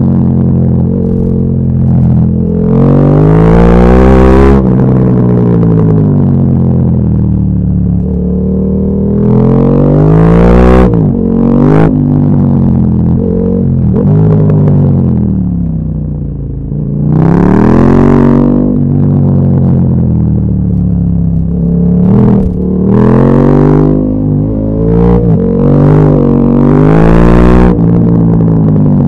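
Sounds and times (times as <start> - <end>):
motorcycle engine accelerating hard: 0.0 - 29.0.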